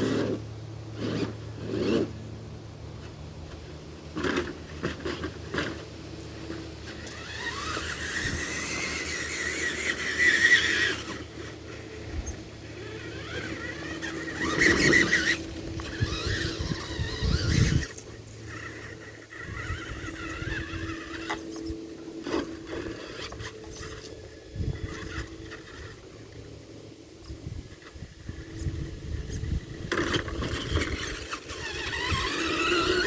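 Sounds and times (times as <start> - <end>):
toy truck electric motors whining: 0.0 - 2.2, 3.0 - 33.0.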